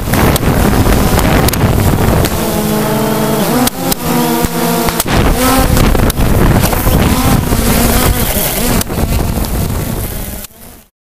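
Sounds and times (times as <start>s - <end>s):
sharp cracks: 0.0s - 9.8s
drone propellers whining: 0.0s - 10.9s.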